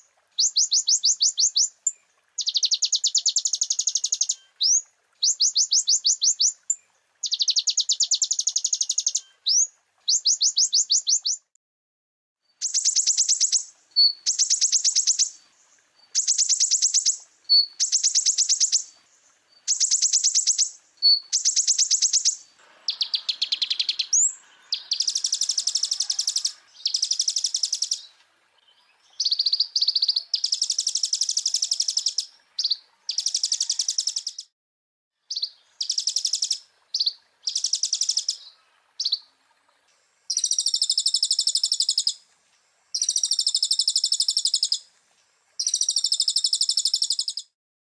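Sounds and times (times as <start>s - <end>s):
sunbird singing trills: 0.0s - 11.5s, 12.6s - 34.5s, 35.3s - 39.3s, 40.3s - 42.2s, 43.0s - 44.8s, 45.6s - 47.5s.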